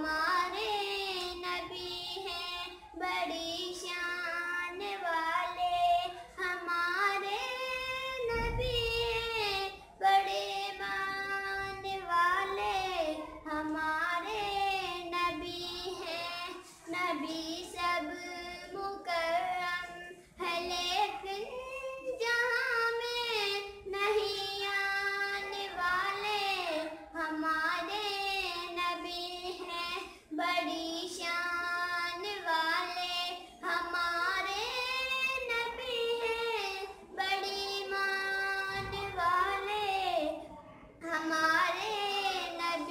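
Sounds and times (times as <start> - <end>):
girl singing: 0.0 - 42.9.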